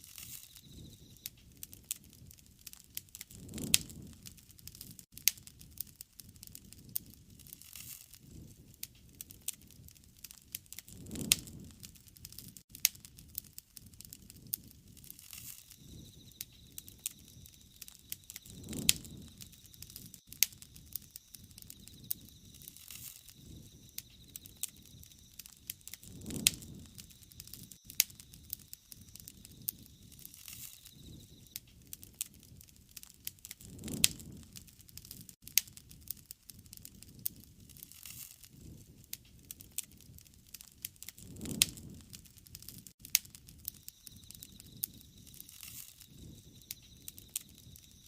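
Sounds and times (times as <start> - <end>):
low rush of flame: 0.0 - 48.0
wood fire crackling and popping: 0.0 - 48.0.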